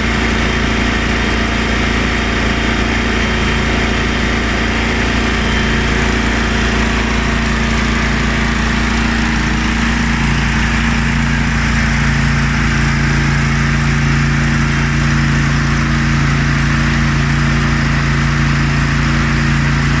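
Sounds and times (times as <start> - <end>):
air compressor engine running: 0.0 - 20.0.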